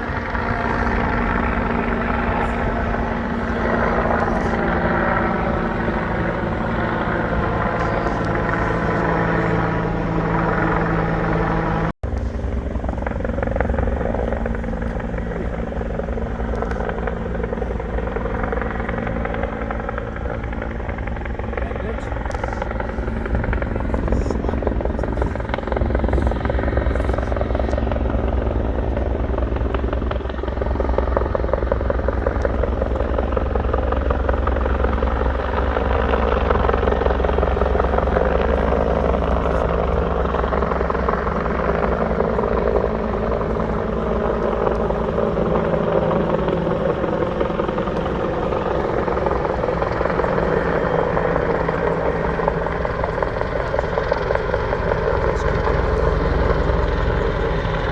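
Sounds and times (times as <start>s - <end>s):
helicopter flying close: 0.0s - 57.9s.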